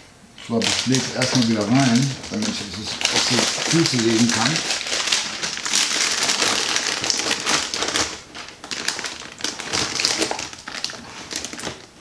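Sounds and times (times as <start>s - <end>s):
plastic bag rustling: 0.4s - 12.0s.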